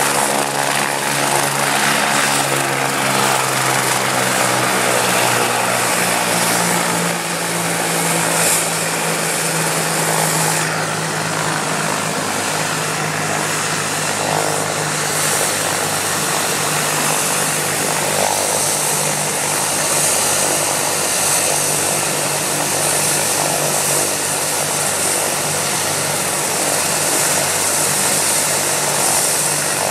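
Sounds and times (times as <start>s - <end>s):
helicopter rotor noise: 0.0s - 29.9s
helicopter turbine whine: 0.0s - 29.9s.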